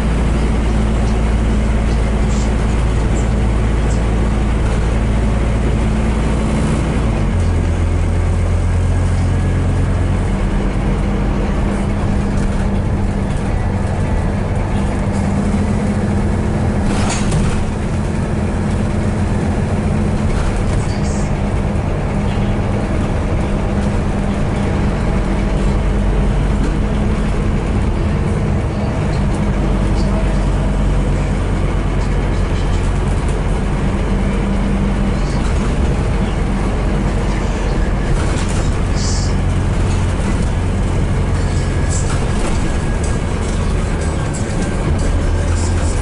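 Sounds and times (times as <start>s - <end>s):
bus diesel engine: 0.0s - 46.0s.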